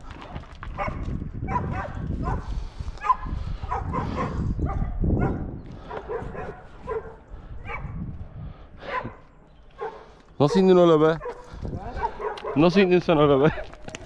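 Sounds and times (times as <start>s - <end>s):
dogs barking and yelping: 0.8s - 8.0s, 8.8s - 12.8s.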